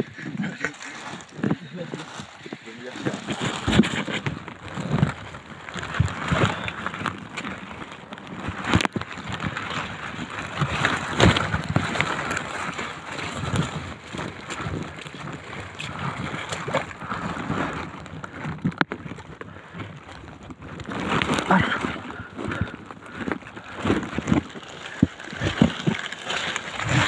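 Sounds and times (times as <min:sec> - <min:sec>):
footsteps sloshing in mud: 0:00.0 - 0:27.0.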